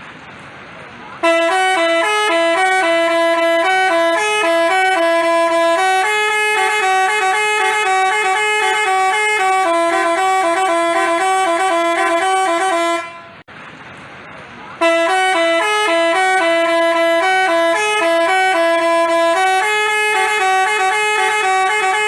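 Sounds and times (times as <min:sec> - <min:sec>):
horn playing quick melody: 0:01.2 - 0:13.4, 0:14.8 - 0:22.0.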